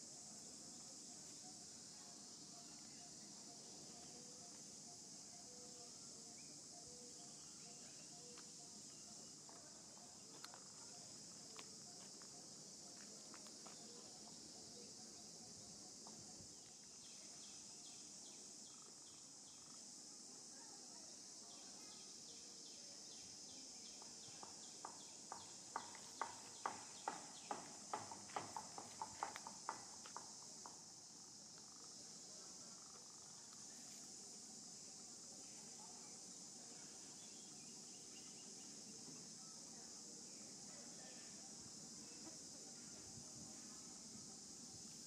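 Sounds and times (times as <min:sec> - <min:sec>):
high-pitched insect drone: 0:00.0 - 0:20.4, 0:21.3 - 0:45.0.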